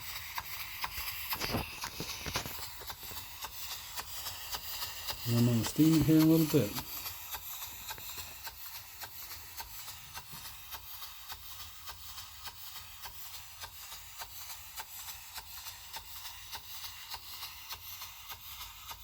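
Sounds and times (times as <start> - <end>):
model steam engine ticking: 0.0 - 19.0.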